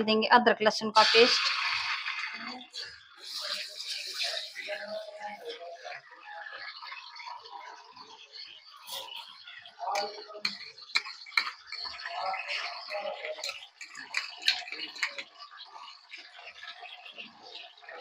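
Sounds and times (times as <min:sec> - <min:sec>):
paste sizzling in hot oil: 0:01.0 - 0:18.0.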